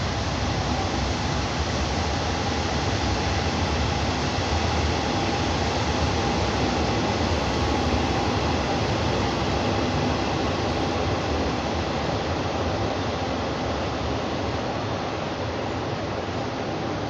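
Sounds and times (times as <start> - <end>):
diesel train engine noise: 0.0 - 17.0.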